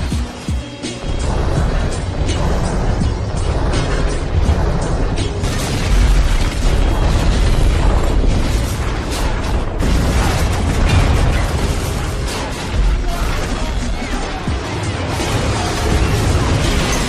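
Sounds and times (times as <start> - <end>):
music: 0.0 - 17.0
deep rumble: 1.0 - 17.0
explosion blasts: 1.0 - 17.0.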